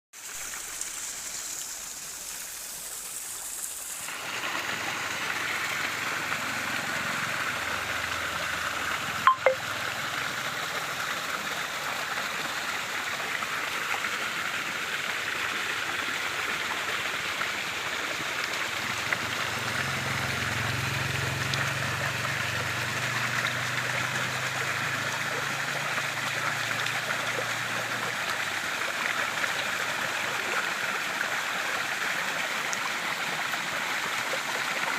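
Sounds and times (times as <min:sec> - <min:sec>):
stream water flowing: 0:00.2 - 0:34.9.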